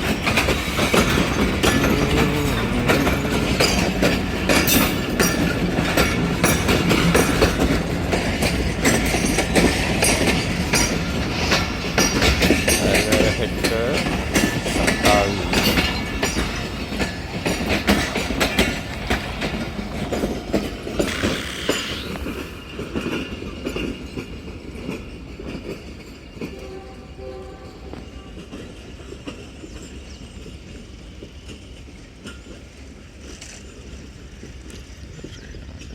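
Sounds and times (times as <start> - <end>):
train wheels clattering over rail joints: 0.0 - 35.9.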